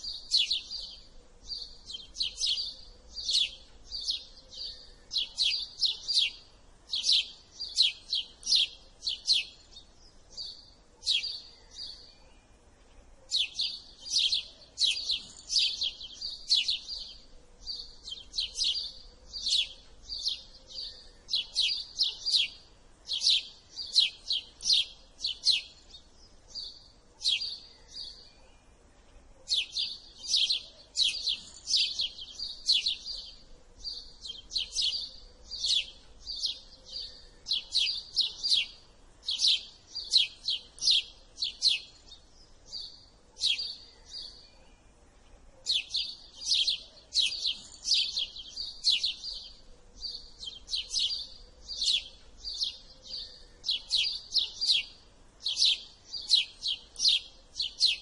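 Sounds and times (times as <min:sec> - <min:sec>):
sparrow chirping: 0:00.0 - 0:58.0.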